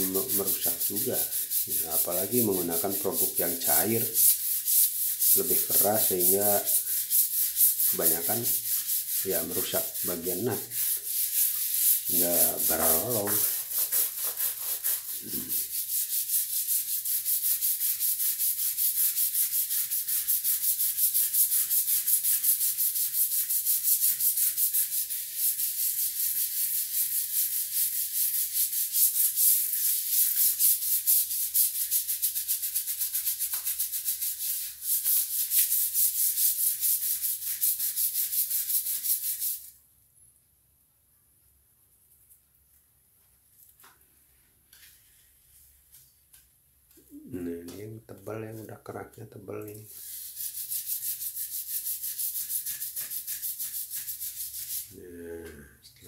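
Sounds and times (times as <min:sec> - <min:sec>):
scrub brush scrubbing floor tiles: 0:00.0 - 0:39.7, 0:44.6 - 0:47.8, 0:49.9 - 0:55.6.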